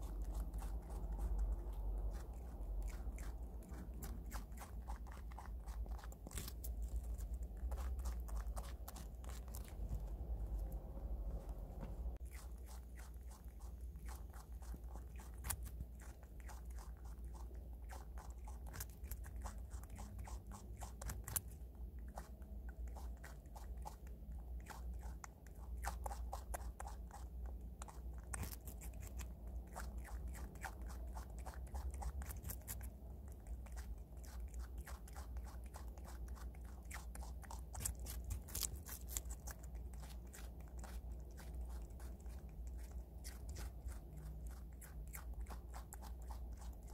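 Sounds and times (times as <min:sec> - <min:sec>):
prairie dog crunching radish: 0:00.0 - 0:11.6, 0:12.2 - 0:46.9.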